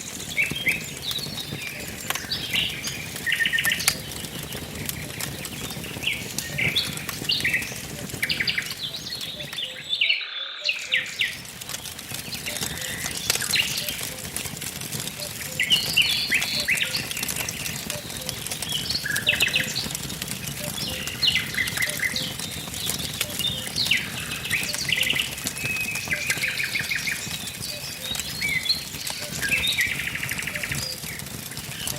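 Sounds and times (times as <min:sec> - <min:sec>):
songbirds chirping: 0:00.0 - 0:31.9
wood fire crackling and popping: 0:00.0 - 0:31.9.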